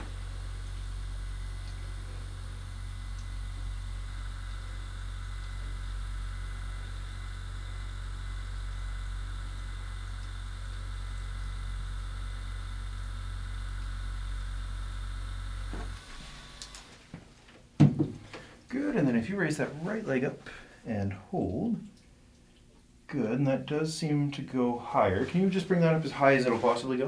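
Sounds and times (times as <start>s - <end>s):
massager buzzing hum: 0.0s - 21.7s.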